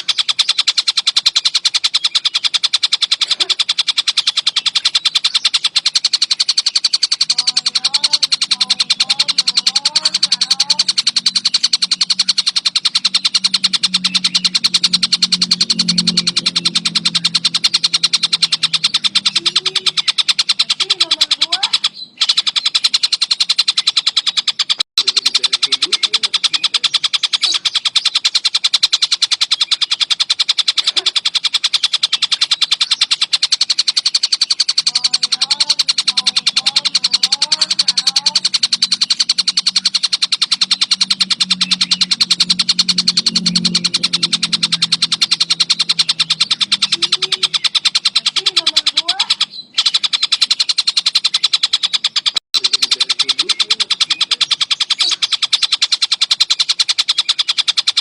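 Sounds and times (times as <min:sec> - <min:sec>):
low hum: 0:00.0 - 0:24.1, 0:25.0 - 0:57.7
faint low bird chirps: 0:00.0 - 0:58.0
songbird trilling: 0:00.0 - 0:58.0.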